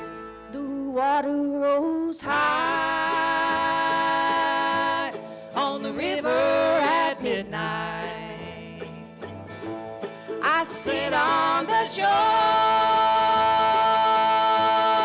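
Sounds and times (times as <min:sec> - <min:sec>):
acoustic string band playing: 0:00.0 - 0:01.4, 0:02.2 - 0:15.0.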